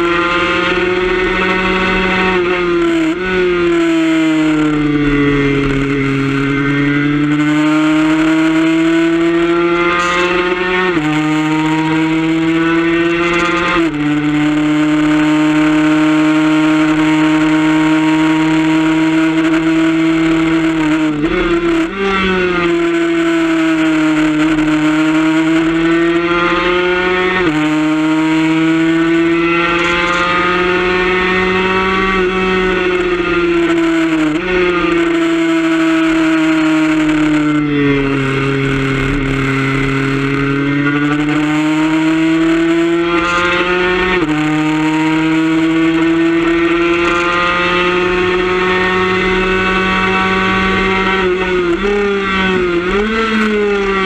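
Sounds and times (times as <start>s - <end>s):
motorcycle engine revving high: 0.0s - 54.0s.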